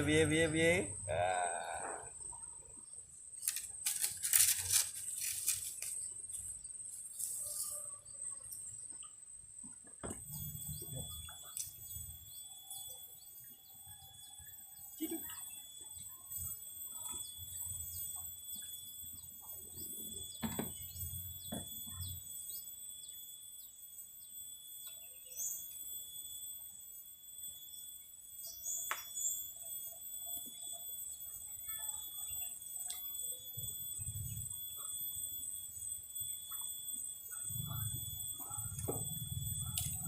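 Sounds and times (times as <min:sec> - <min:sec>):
high-pitched insect drone: 0:00.0 - 0:40.0.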